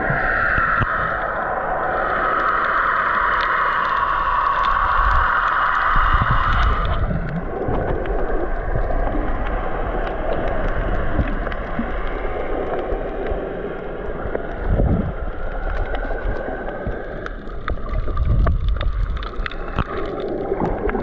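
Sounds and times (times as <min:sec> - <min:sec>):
underwater wave surge and bubbles: 0:00.0 - 0:21.0.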